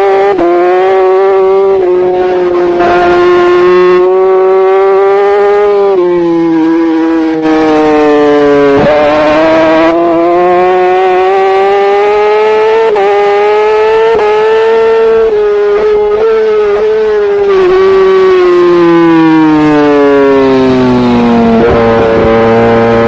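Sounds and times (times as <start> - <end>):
motorbike engine at high revs: 0.0 - 23.0.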